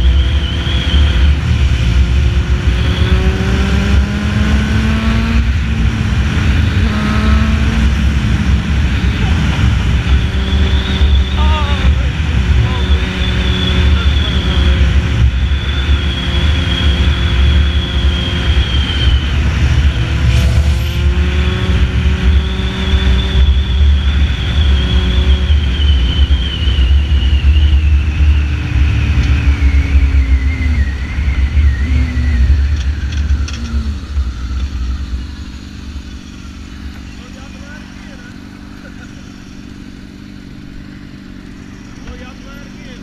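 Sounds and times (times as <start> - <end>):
motorcycle engine whining: 0.0 - 43.0.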